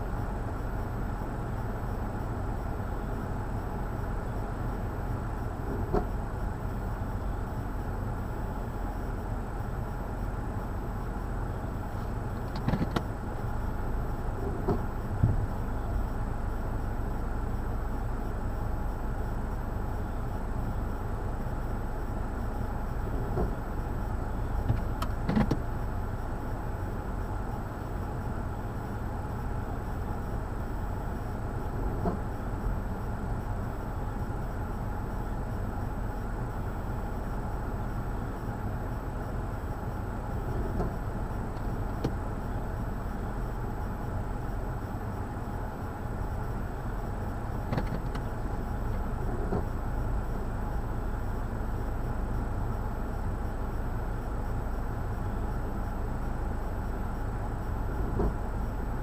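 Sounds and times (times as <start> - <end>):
low city ambience rumble: 0.0 - 59.0.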